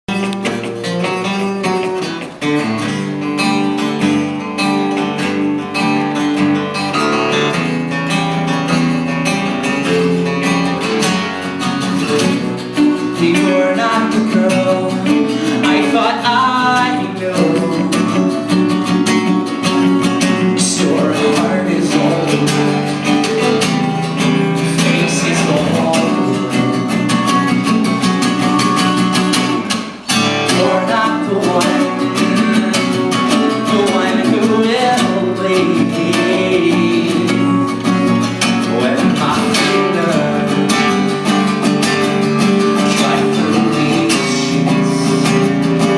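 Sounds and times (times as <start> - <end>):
sliding lead guitar line: 0.1 - 45.9
strummed acoustic guitar: 0.1 - 45.9.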